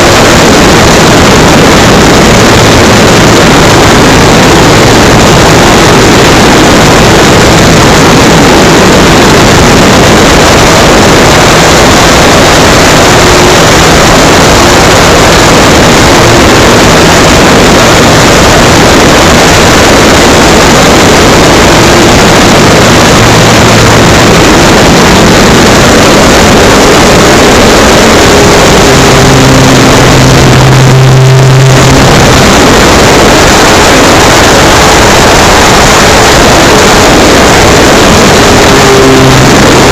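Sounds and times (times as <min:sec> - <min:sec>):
electric motor hum: 0:00.0 - 0:39.9
wind and propeller rush: 0:00.0 - 0:39.9.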